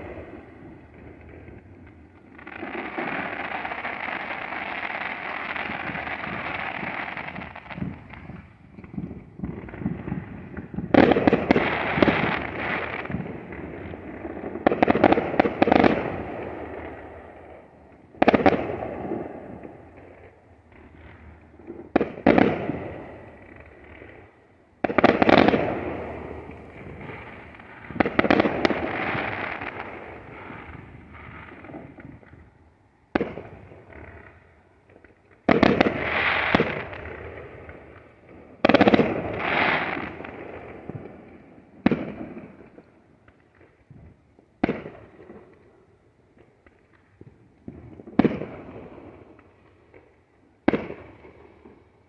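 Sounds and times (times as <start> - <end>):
loud firework bangs: 0.0 - 32.5, 33.1 - 42.8, 43.9 - 45.6, 47.2 - 51.4
firework pops and crackles: 0.0 - 52.0.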